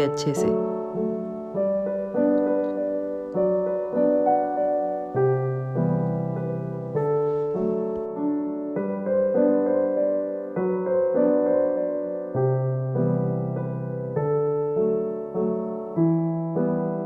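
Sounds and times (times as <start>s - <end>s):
slow gentle piano chords: 0.0s - 17.0s.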